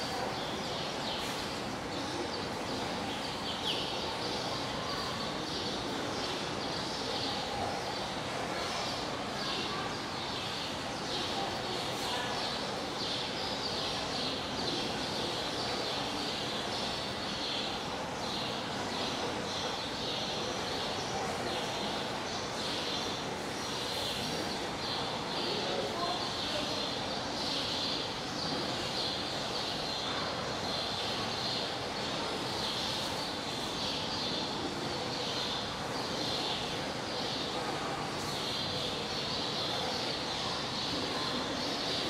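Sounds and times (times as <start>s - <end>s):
murmur of voices: 0.0s - 42.0s.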